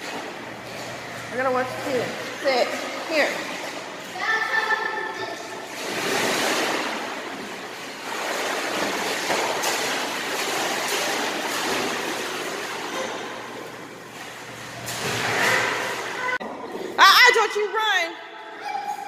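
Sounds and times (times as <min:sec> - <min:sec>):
pool water splashing: 0:00.0 - 0:19.0.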